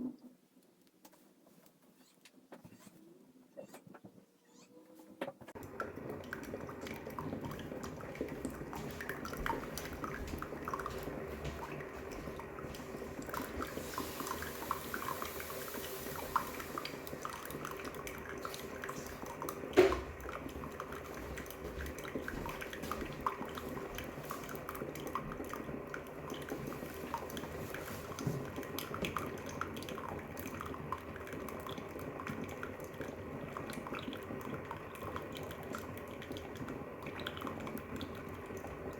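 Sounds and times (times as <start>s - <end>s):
coffee dripping: 5.6s - 38.9s
coffee maker popping and ticking: 5.6s - 38.9s.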